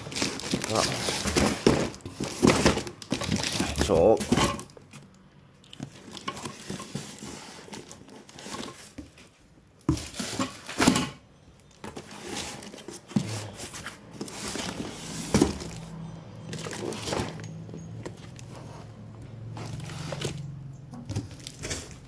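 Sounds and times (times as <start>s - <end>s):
cardboard rustling and scraping: 0.0s - 4.7s, 5.9s - 22.0s.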